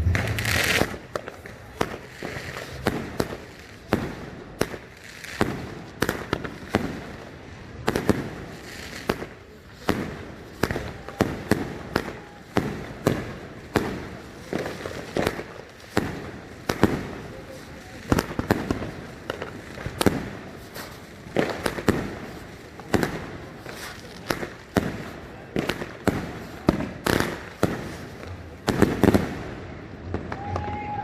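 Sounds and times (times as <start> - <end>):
fireworks bangs: 0.0 - 31.0
fireworks crackling burst: 0.0 - 31.0.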